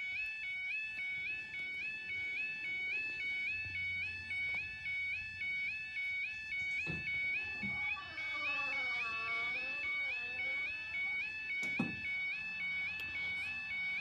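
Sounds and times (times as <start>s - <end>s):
crossing alarm two-tone warble: 0.0s - 14.0s.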